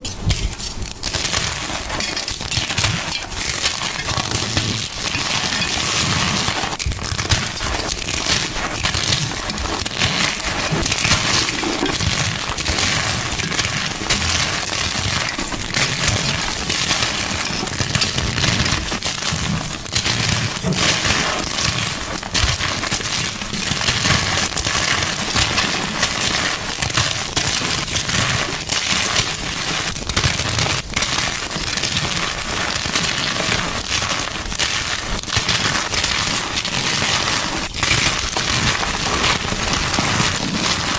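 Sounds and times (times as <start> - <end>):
chalk crunching and crackling: 0.0 - 40.9.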